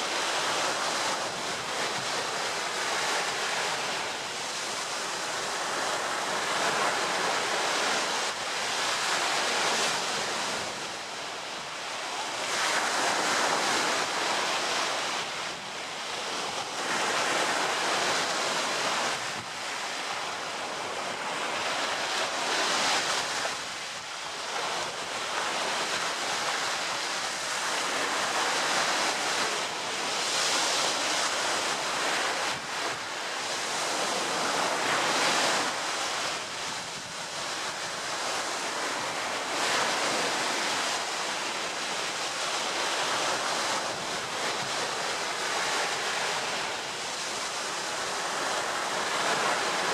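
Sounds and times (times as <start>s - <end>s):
waves breaking and washing in: 0.0s - 49.9s.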